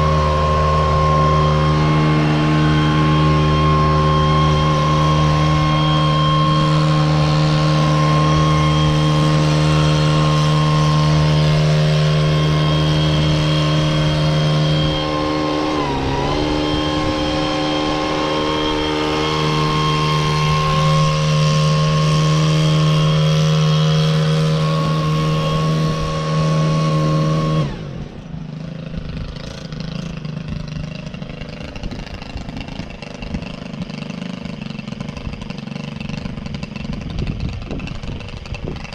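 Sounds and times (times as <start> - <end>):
blower running: 0.0 - 38.9.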